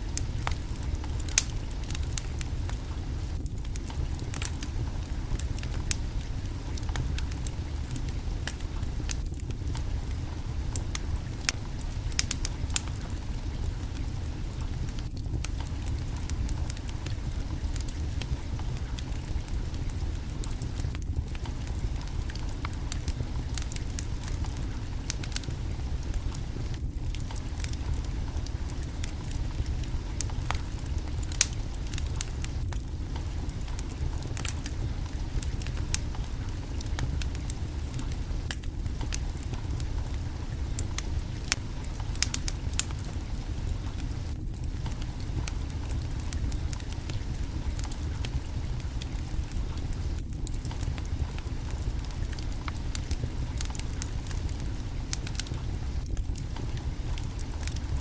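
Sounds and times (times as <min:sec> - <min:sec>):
fire popping: 0:00.0 - 0:58.0
low fire rumble: 0:00.0 - 0:58.0
wood fire crackling: 0:00.0 - 0:58.0.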